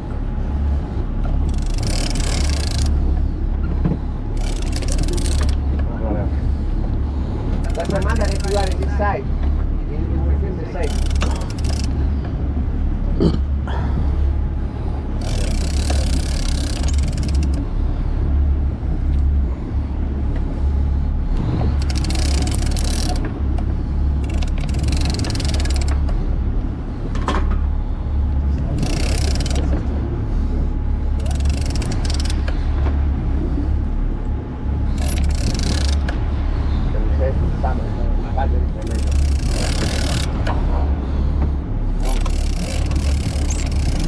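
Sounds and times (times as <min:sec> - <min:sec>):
boat engine rumble: 0:00.0 - 0:44.0.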